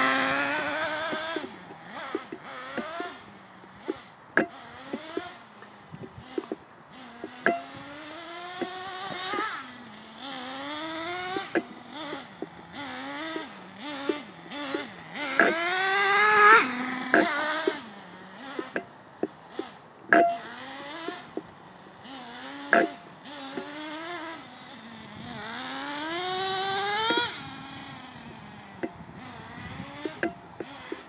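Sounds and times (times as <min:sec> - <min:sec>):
toy engine revving: 0:00.0 - 0:31.0.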